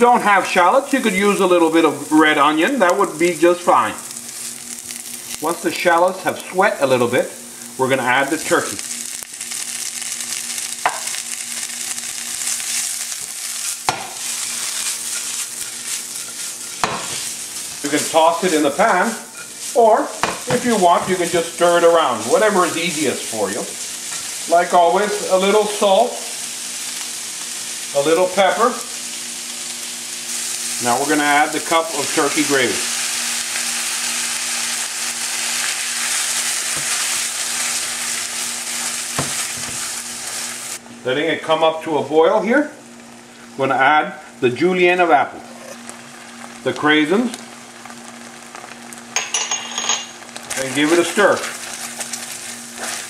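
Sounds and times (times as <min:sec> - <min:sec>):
meat sizzling in oil: 0:00.0 - 0:40.9, 0:45.7 - 0:53.0.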